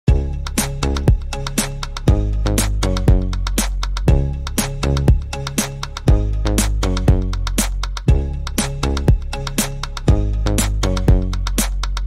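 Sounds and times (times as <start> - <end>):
upbeat electronic music: 0.1 - 12.0.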